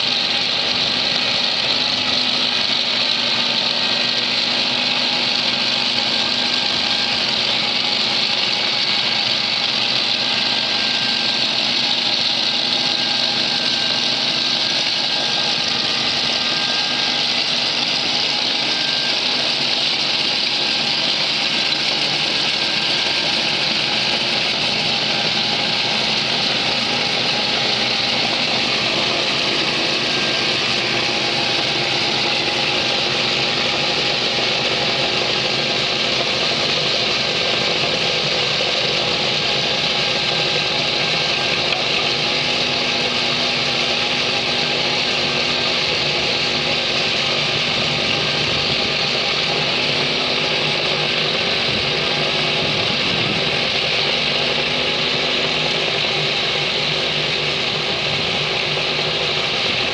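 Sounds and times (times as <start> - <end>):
diesel engine under load: 0.0 - 59.9
digging chain cutting sandy soil: 0.0 - 59.9.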